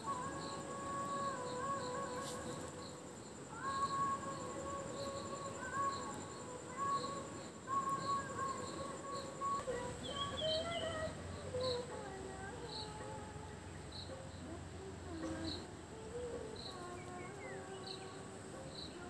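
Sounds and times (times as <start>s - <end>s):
faint background music: 0.0s - 19.0s
insects trilling: 0.0s - 19.0s.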